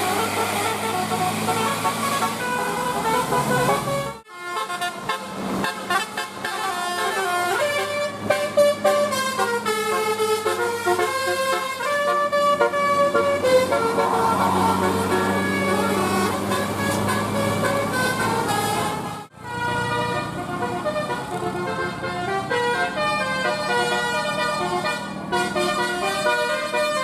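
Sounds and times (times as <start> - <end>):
musical air horn tune: 0.0 - 27.0.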